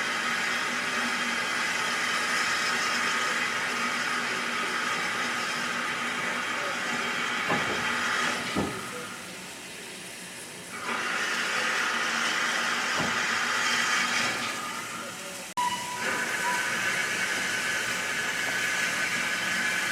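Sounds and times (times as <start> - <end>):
steam locomotive hissing: 0.0 - 19.9.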